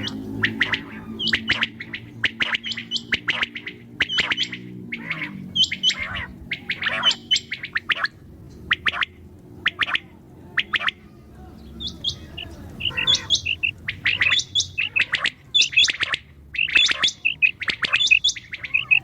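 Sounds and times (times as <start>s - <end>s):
low steady hum: 0.0s - 19.0s
quail chirping: 0.0s - 19.0s.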